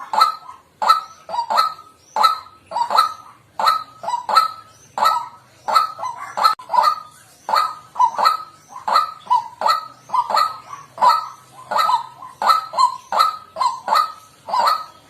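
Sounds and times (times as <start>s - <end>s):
bird harsh honking calls: 0.0s - 15.0s.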